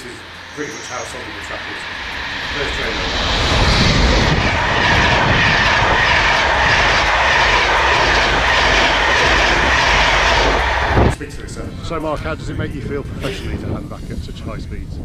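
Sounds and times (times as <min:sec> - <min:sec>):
electric train passing: 0:00.0 - 0:14.2.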